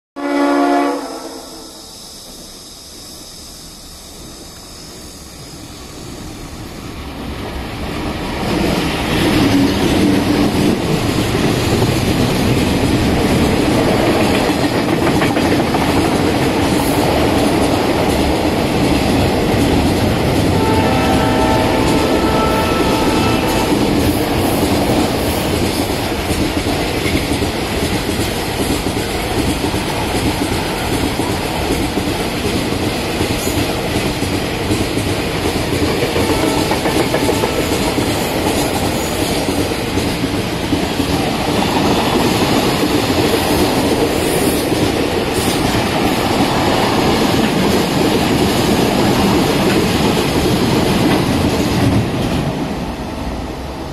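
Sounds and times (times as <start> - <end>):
train wheels rumbling and clattering: 1.8 - 53.9.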